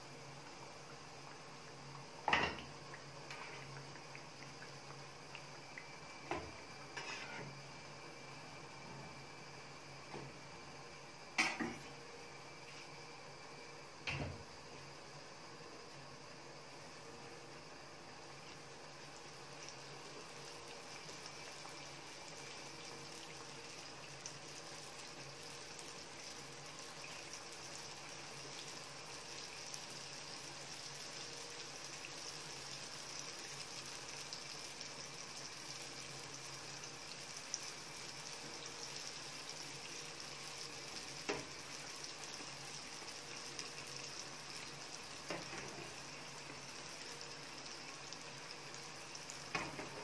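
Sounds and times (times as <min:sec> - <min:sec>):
dough sizzling in hot oil: 0:00.0 - 0:50.0.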